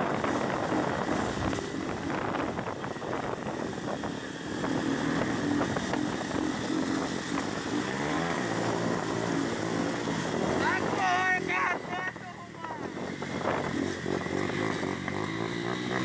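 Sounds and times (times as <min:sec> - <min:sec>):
motorcycle engine running: 0:00.0 - 0:16.0
road noise: 0:00.0 - 0:16.0
rushing wind: 0:00.0 - 0:16.0.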